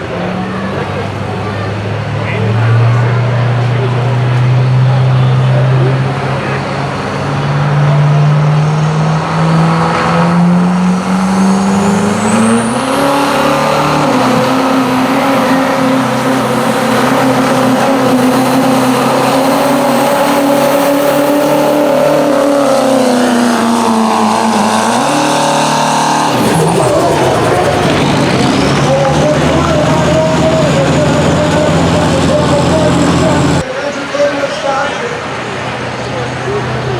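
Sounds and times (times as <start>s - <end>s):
diesel truck engine under load: 0.0s - 36.9s.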